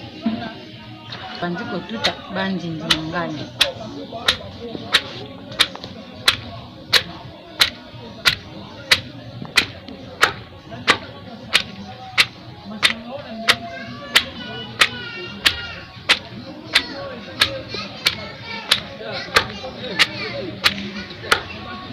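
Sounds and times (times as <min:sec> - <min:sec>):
wooden pestle pounding in mortar: 0:01.9 - 0:21.6.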